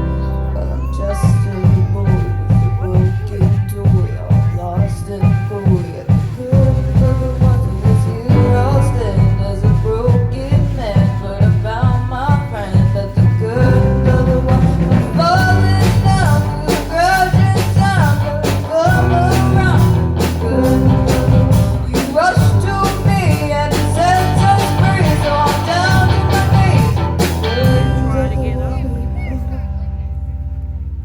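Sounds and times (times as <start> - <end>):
drum kit hits: 0.0 - 28.6
person singing: 0.0 - 30.3
bass and guitar: 0.0 - 31.0.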